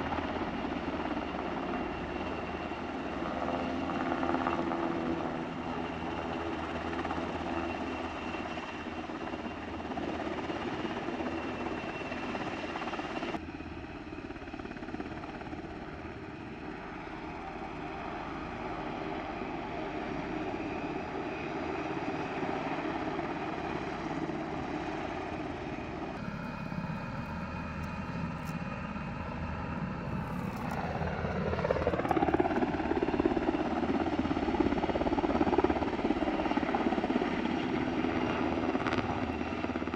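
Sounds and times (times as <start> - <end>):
helicopter rotor throb: 0.0 - 39.9
helicopter turbine whine: 0.0 - 39.9.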